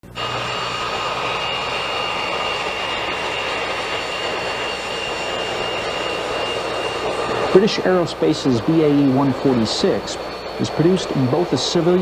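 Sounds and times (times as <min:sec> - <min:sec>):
high steady whine: 0:00.0 - 0:12.0
jet engines roaring: 0:00.0 - 0:12.0.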